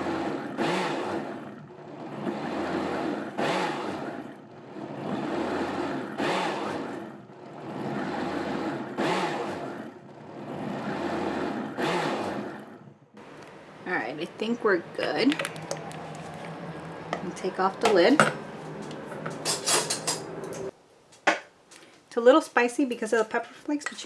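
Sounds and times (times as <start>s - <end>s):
blender running: 0.0s - 20.7s.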